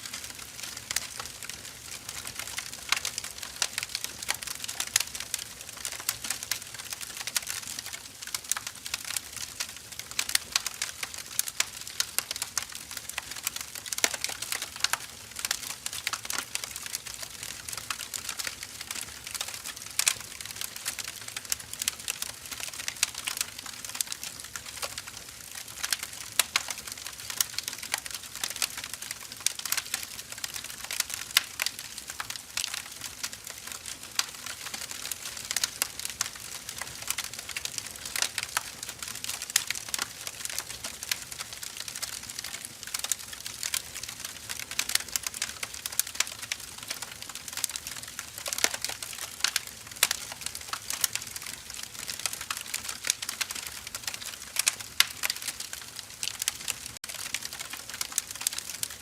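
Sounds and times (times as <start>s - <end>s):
firewood crackling and popping: 0.0s - 59.0s.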